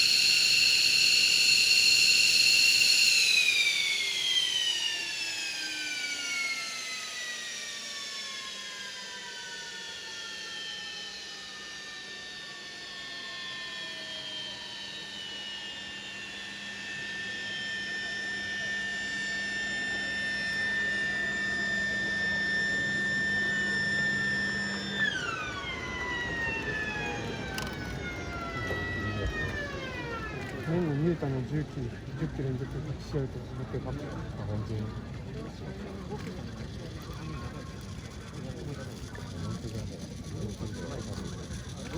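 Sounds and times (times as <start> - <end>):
jet engine spooling down: 0.0 - 41.9
steady high engine whine: 0.0 - 41.9.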